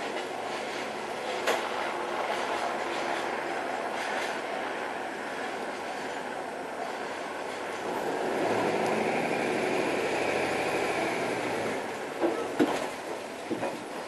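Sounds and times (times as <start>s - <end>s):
train passing: 0.0s - 14.0s.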